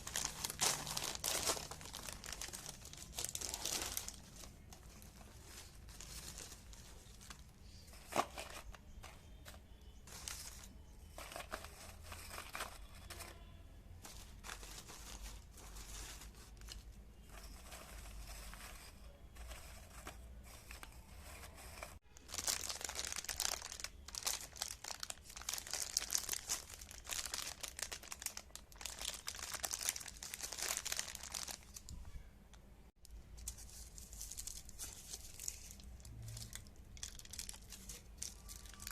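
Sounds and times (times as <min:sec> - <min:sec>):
crinkling and crackling: 0:00.0 - 0:38.9.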